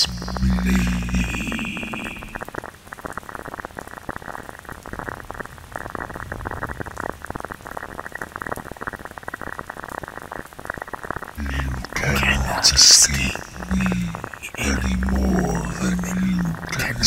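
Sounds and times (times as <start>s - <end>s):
dense muffled crackling: 0.0s - 17.0s.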